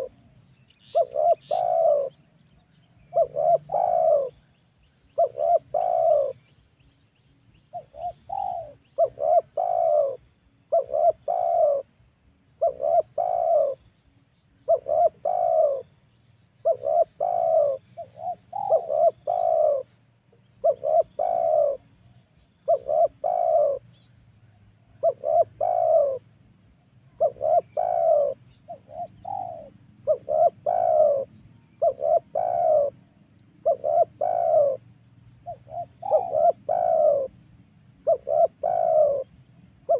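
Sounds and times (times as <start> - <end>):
dove cooing: 0.0 - 6.5, 7.7 - 12.0, 12.6 - 13.9, 14.6 - 16.0, 16.6 - 26.3, 27.0 - 39.9.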